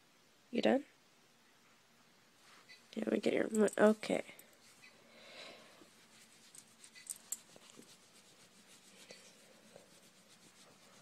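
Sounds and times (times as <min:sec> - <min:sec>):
faint rustling: 0:01.6 - 0:11.0.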